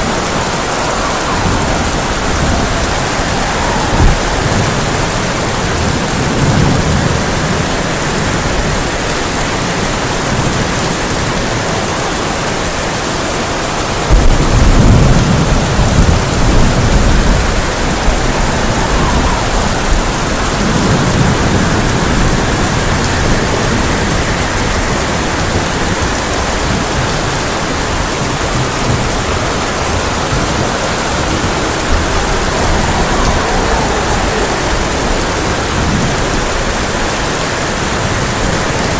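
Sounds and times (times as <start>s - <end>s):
heavy rain on a tin roof: 0.0s - 38.9s
thunder rumbling: 0.0s - 38.9s.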